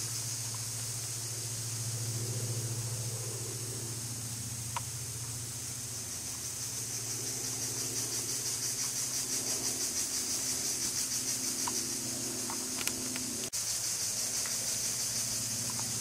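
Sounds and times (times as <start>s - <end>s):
low hum: 0.0s - 13.5s
insects buzzing: 0.0s - 16.0s.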